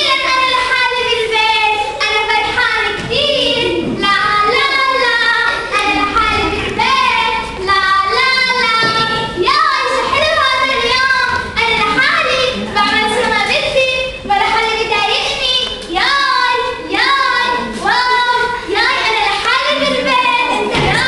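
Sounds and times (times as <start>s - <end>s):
girl singing: 0.0s - 21.0s.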